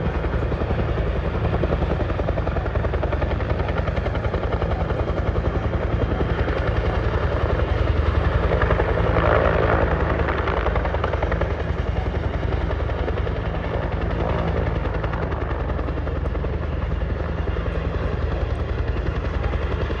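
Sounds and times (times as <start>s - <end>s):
helicopter rotor beat: 0.0s - 20.0s.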